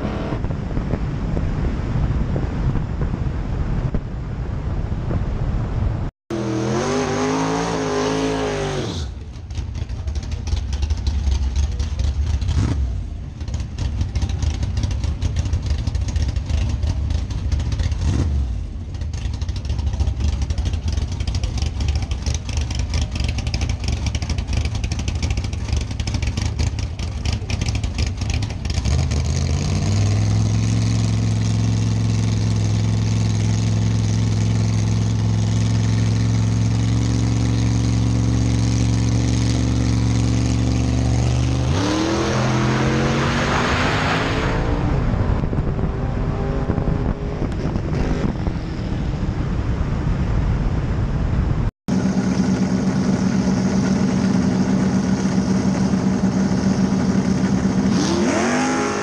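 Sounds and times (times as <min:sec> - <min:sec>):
race car engine revving: 0:06.3 - 0:50.0, 0:51.9 - 0:59.0.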